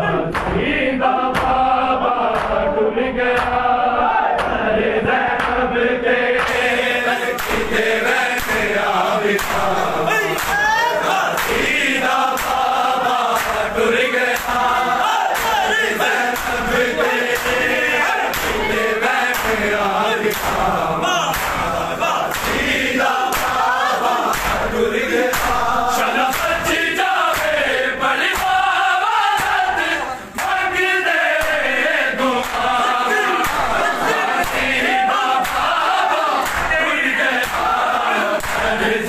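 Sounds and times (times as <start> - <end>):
crowd of men chanting: 0.0 - 39.0
hands slapping chests: 0.3 - 0.7, 1.3 - 2.6, 3.3 - 3.7, 4.3 - 4.7, 5.3 - 5.7, 6.3 - 31.8, 32.4 - 38.8.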